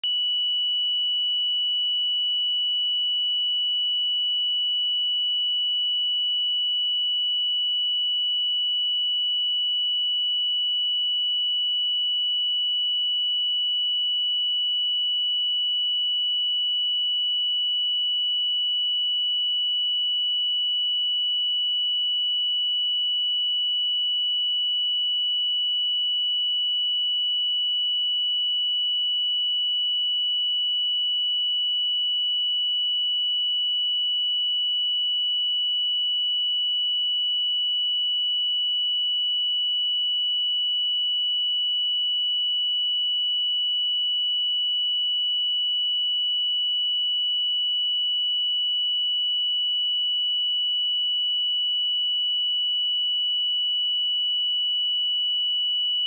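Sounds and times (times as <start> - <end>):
high-pitched sine test tone: 0.0 - 56.0.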